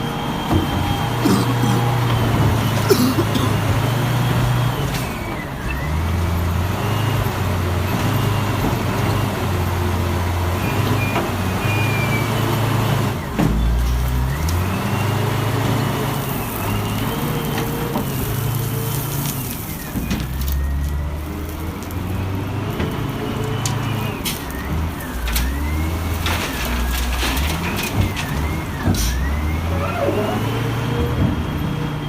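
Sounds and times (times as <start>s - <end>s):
loader engine droning: 0.0s - 32.0s.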